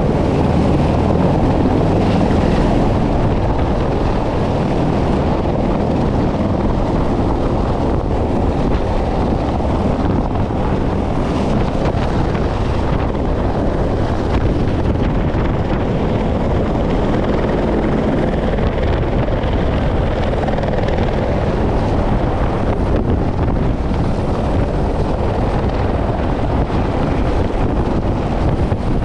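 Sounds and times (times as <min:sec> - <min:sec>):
helicopter rotor and turbine: 0:00.0 - 0:29.0.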